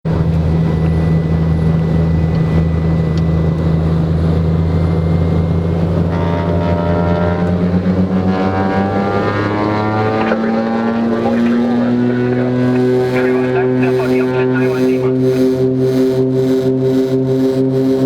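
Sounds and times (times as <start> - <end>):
twin piston aircraft engines droning: 0.1 - 18.0.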